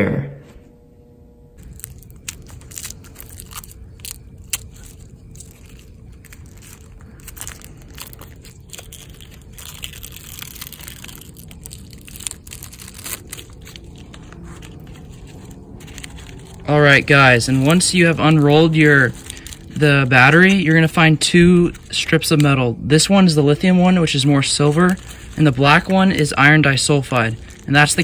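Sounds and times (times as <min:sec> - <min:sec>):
crinkling foil sheets unrolled: 0:01.6 - 0:28.0.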